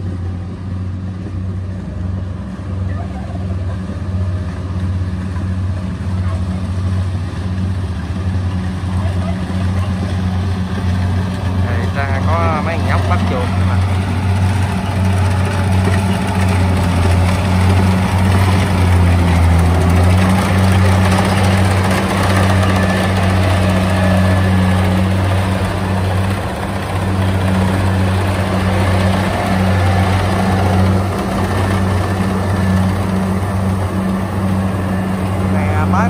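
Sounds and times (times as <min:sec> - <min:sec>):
combine harvester diesel engine hum: 0:00.0 - 0:36.0
threshing machine noise: 0:00.0 - 0:36.0.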